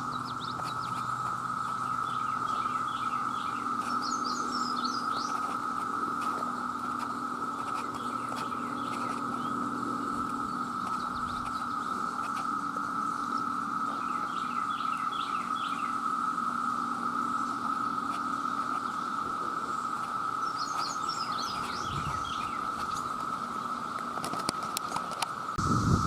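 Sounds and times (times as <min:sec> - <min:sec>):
bird chirps: 0:00.0 - 0:24.1
cicadas droning: 0:00.0 - 0:26.0.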